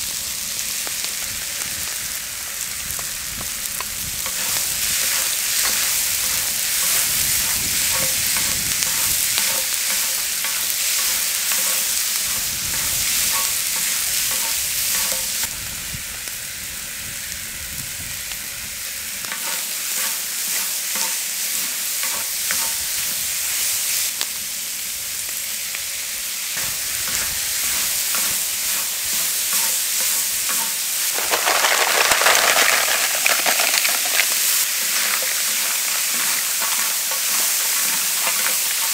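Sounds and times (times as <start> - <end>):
food sizzling in a hot pan: 0.0 - 38.9.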